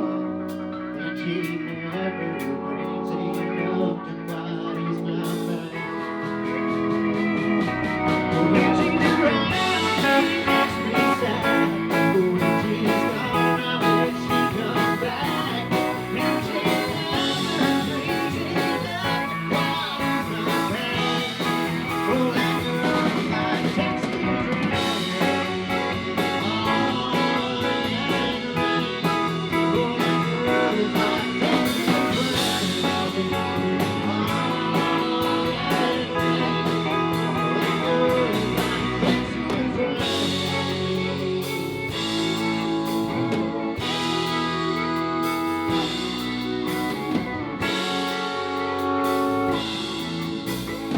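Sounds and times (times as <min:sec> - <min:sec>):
country-rock band playing: 0:00.0 - 0:50.9
lead guitar: 0:00.0 - 0:50.9.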